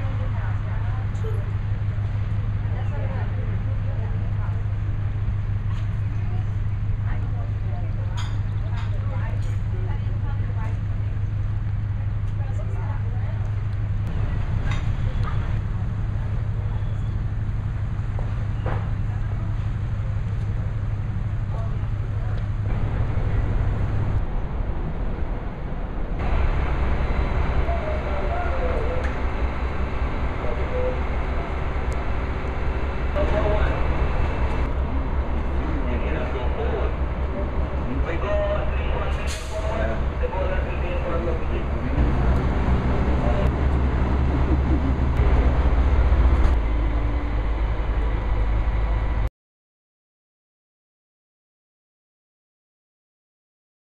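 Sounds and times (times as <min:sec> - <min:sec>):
low hum: 0:00.0 - 0:49.3
ship deck low rumble: 0:00.0 - 0:49.3.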